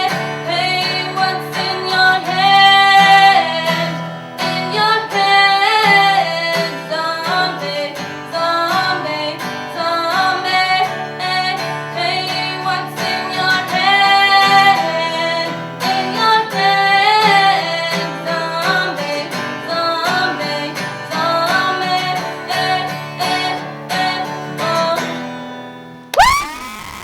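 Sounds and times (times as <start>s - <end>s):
woman singing: 0.0s - 25.2s
strummed acoustic guitar: 0.0s - 26.0s.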